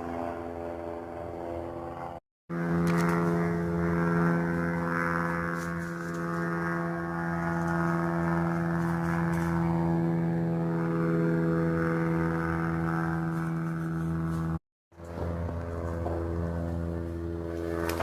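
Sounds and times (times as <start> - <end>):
propeller airplane engine droning: 0.0 - 18.0.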